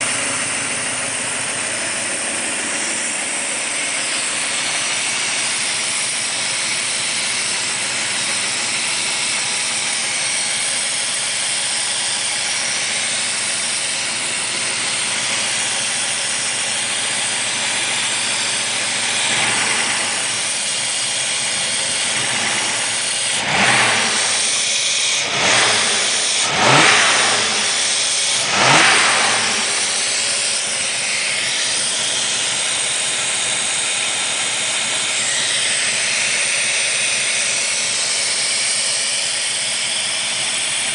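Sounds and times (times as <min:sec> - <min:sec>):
car engine idling: 0:00.0 - 0:40.9
engine revving: 0:00.0 - 0:40.9.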